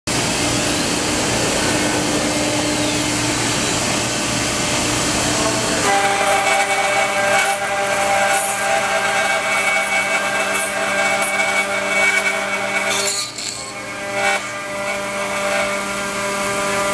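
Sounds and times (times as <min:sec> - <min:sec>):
high-pitched machine whine: 0:00.1 - 0:16.9.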